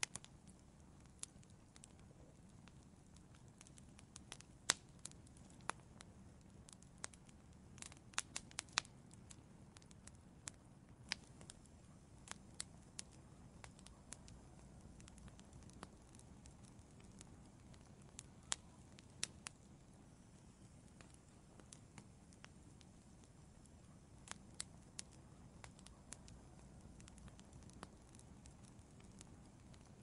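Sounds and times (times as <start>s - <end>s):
hiss of burning: 0.0s - 30.0s
wood fire crackling and popping: 0.0s - 30.0s.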